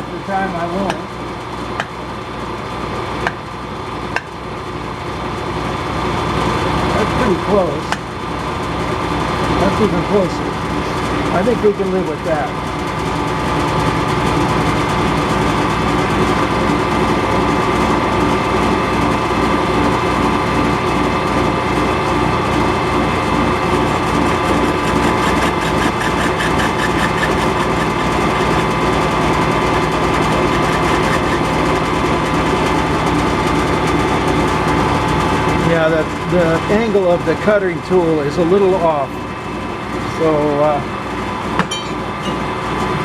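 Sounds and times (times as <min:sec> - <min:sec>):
metal lathe humming: 0:00.0 - 0:43.0.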